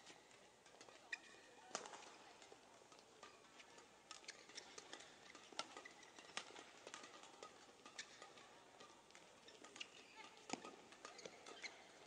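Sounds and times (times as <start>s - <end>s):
rackets striking shuttlecock: 0.3s - 12.0s.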